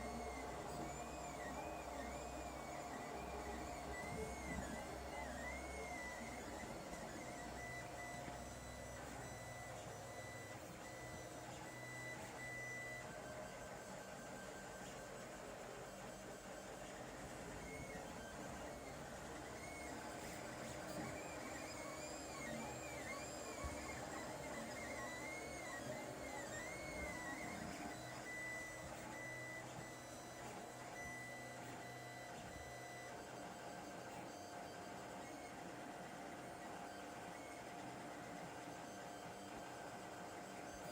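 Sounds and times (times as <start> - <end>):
low printer hum: 0.0 - 40.9.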